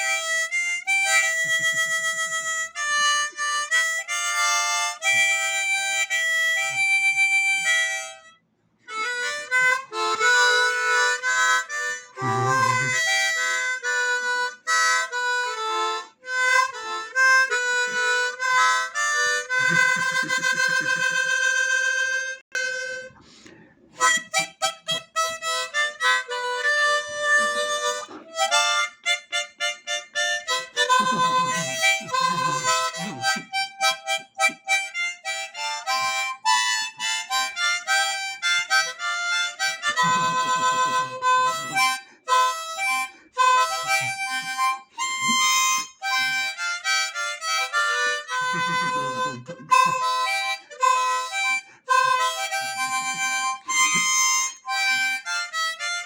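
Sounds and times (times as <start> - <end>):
harmonica playing a tune: 0.0 - 56.0.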